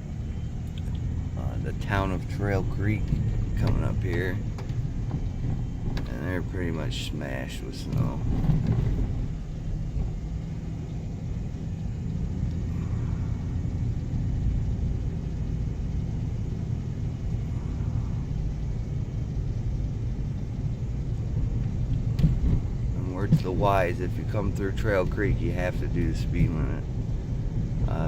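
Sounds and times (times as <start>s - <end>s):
road noise inside cabin: 0.0s - 28.0s
vehicle engine drone: 0.0s - 28.0s.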